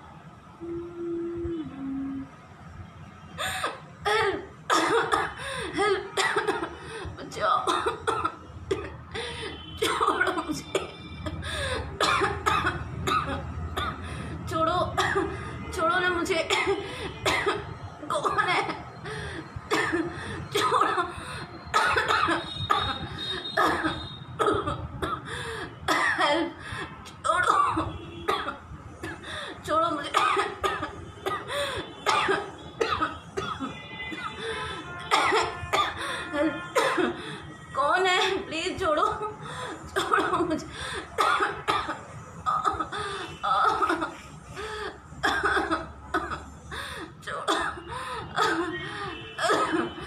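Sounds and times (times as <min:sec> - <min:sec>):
woman coughing: 0:03.5 - 0:09.0, 0:09.6 - 0:14.0, 0:15.0 - 0:15.4, 0:16.5 - 0:18.9, 0:19.6 - 0:25.3, 0:25.9 - 0:26.6, 0:27.3 - 0:37.2, 0:38.2 - 0:44.3, 0:45.2 - 0:50.0.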